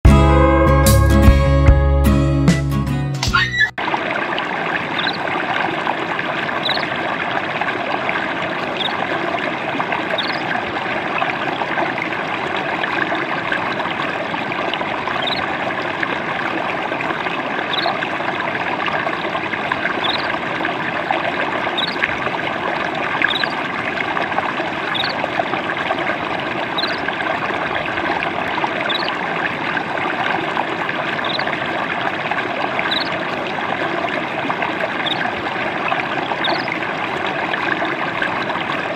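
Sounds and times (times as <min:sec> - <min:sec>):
stream babbling over stones: 0:03.8 - 0:38.9.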